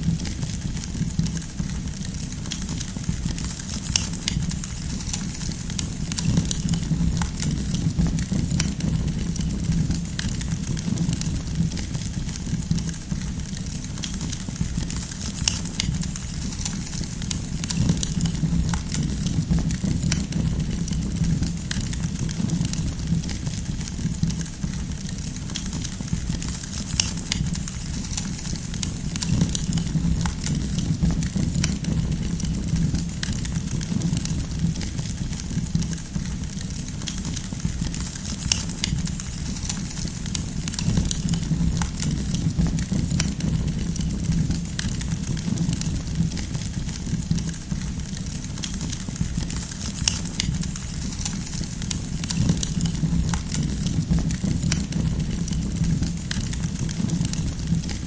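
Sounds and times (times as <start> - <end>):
campfire flames rumbling: 0.0 - 58.0
firewood crackling and popping: 0.0 - 58.0.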